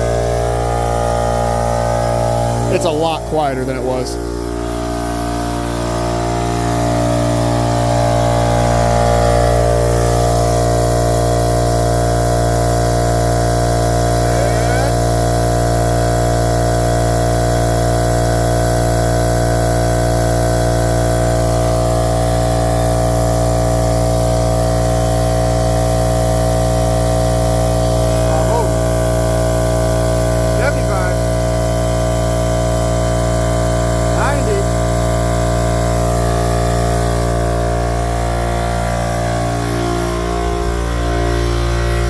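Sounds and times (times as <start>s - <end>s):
air compressor running: 0.0s - 42.0s.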